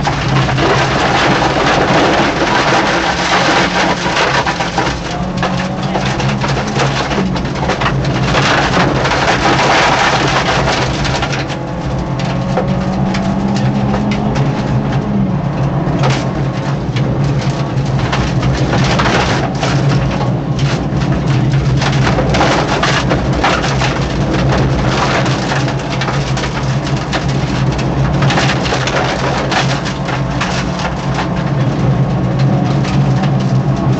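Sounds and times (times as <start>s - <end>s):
car engine running: 0.0s - 33.9s
patter against car bodywork: 0.0s - 33.9s
ticks and rattles: 0.0s - 33.9s.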